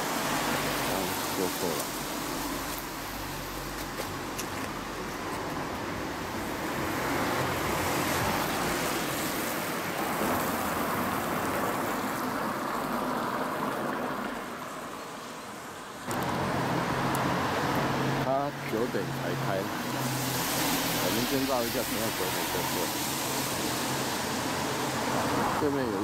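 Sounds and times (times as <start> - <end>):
car tyres hissing on wet road: 0.0 - 26.0.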